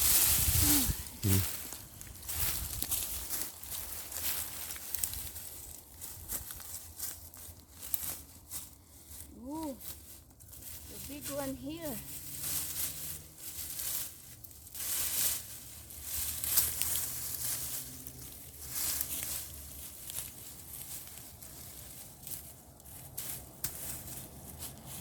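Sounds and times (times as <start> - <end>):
digging in wood-chip mulch: 0.0 - 25.0
rustling vines: 0.0 - 25.0.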